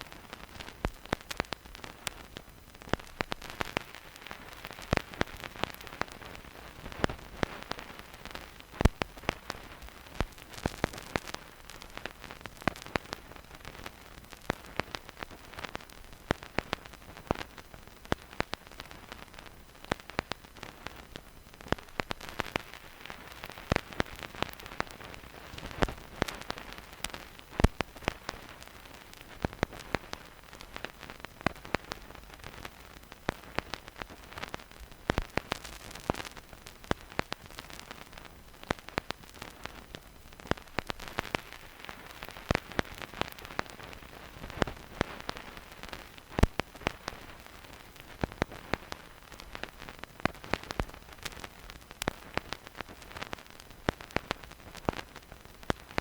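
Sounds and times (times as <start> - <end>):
vinyl record hiss and crackles: 0.0 - 56.0.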